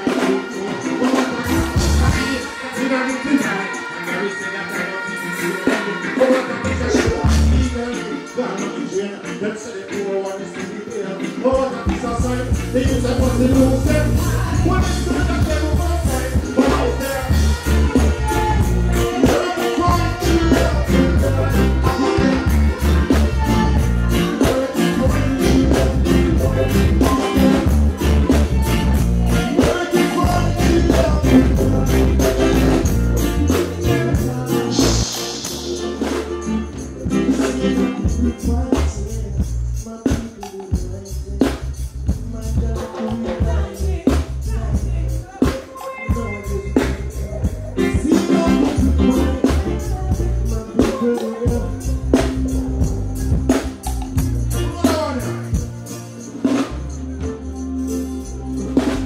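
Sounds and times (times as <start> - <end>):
man singing: 0.0 - 57.4
live reggae band: 0.0 - 59.0.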